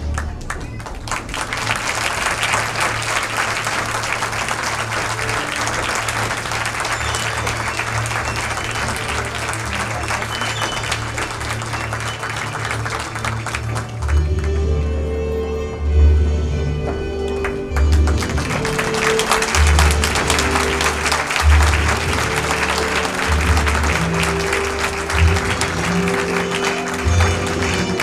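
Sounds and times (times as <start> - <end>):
audience applauding: 0.0 - 15.1, 17.0 - 28.0
music playing: 0.0 - 28.0.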